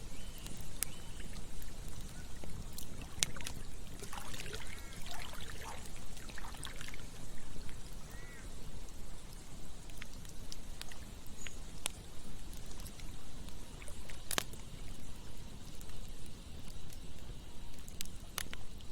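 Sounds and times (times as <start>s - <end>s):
campfire crackling and popping: 0.0s - 18.9s.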